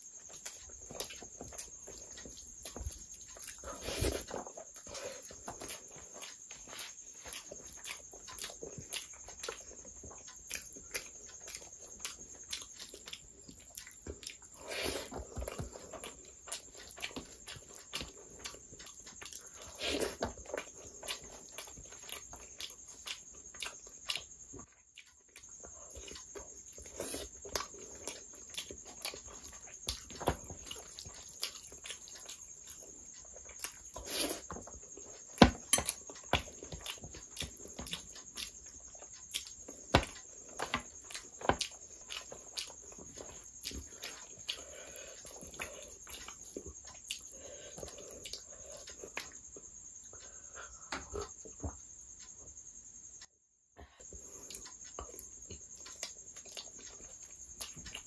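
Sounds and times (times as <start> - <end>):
wet chewing and lip smacks: 0.0 - 50.3, 54.0 - 58.0.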